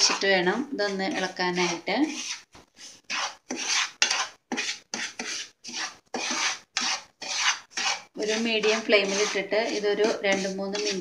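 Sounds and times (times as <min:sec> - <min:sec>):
wooden spatula scraping pan: 0:00.0 - 0:11.0.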